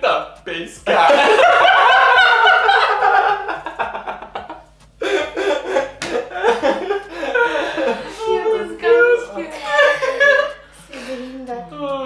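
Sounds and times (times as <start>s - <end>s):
group of people laughing: 0.9s - 10.7s.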